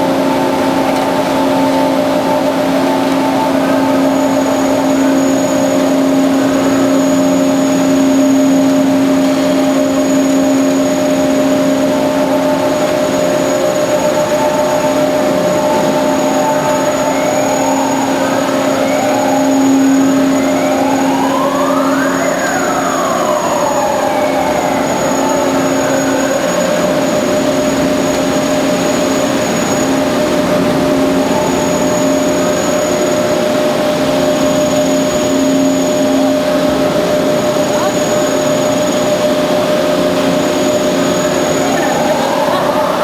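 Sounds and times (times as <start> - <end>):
rising and falling pitch sweeps: 0.0 - 33.4, 40.6 - 43.0.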